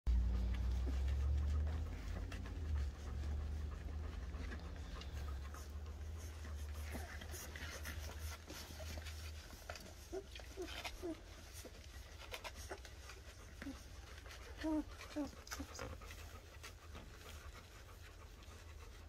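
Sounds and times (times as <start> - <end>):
dog panting: 0.1 - 19.0
puppies rustling: 0.1 - 19.0.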